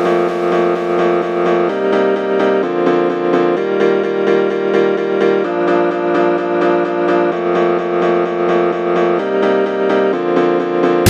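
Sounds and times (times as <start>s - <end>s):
keyboard instrumental with beat: 0.0s - 11.0s.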